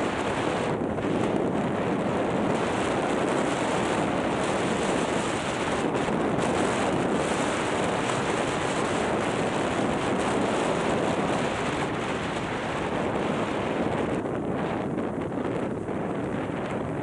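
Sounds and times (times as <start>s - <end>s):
wind over microphone: 0.0s - 17.0s.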